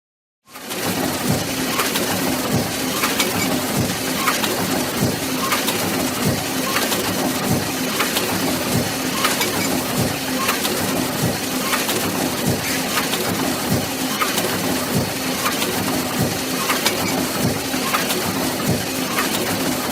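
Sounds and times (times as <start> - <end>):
book press machine clatter: 0.5 - 19.9
sharp machine clack: 0.5 - 19.9.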